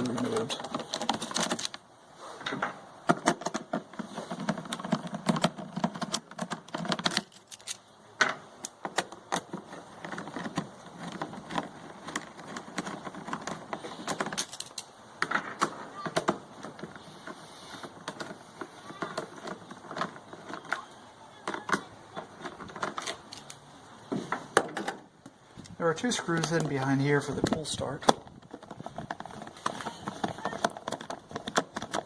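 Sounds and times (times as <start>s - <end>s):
rustling handling: 0.0s - 24.6s, 25.2s - 32.0s.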